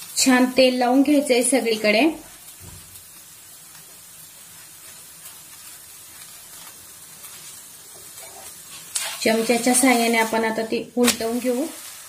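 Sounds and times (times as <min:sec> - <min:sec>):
oil sizzling on hot griddle: 0:00.0 - 0:12.0.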